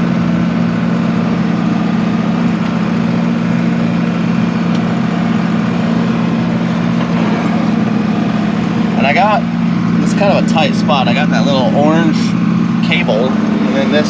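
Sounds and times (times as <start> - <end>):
tractor engine drone: 0.0 - 14.0.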